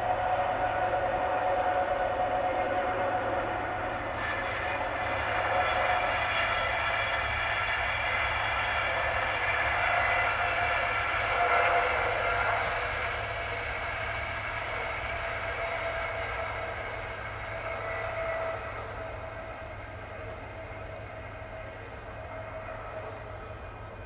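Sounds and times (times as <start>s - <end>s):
passenger train passing: 0.1s - 24.0s.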